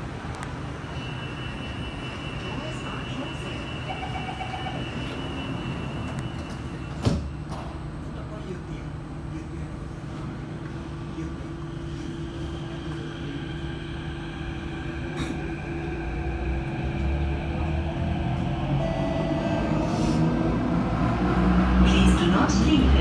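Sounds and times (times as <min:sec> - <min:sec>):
train rumble and hum: 0:00.0 - 0:23.0.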